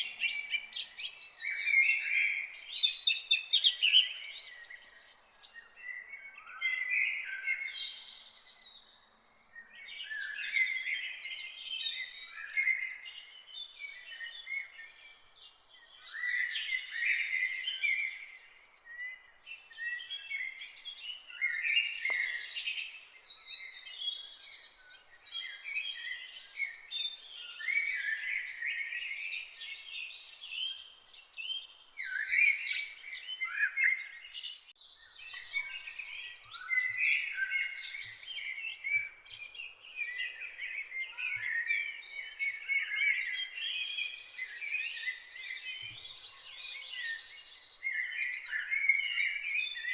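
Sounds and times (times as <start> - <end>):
birds singing and chirping: 0.0 - 49.9.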